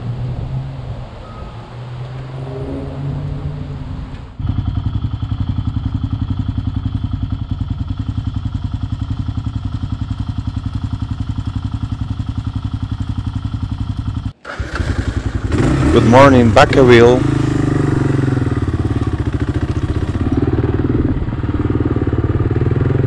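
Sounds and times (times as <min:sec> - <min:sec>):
smooth engine rising tone: 0:00.0 - 0:09.2, 0:13.4 - 0:23.0
motorcycle engine idling: 0:04.4 - 0:23.0.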